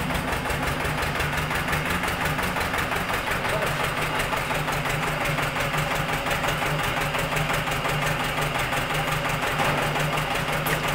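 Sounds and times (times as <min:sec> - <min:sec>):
engine running with knocking: 0:00.0 - 0:10.9.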